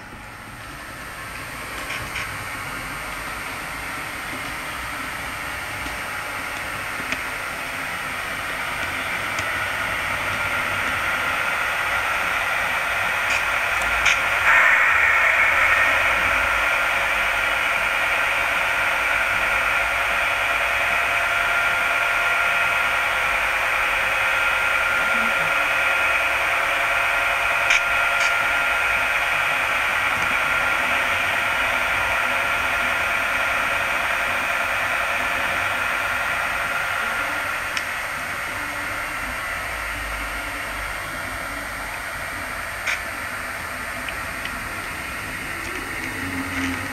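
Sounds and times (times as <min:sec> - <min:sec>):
model train whirring on track: 0:00.0 - 0:46.9.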